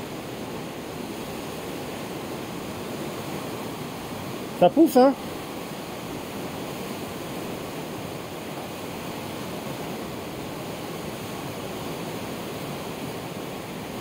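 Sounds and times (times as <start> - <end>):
churning floodwater rushing: 0.0 - 14.0.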